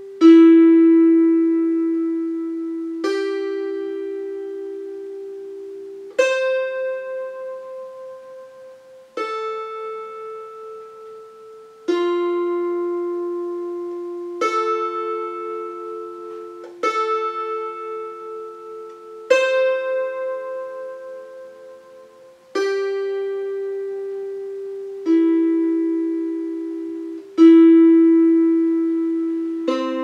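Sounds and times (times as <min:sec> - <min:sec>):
zither chords strummed: 0:00.0 - 0:30.0.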